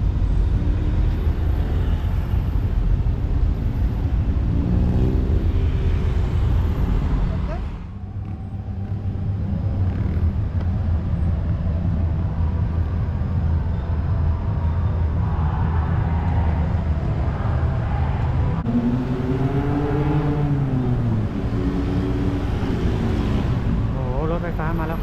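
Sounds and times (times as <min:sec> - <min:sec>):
heavy road traffic: 0:00.0 - 0:25.0.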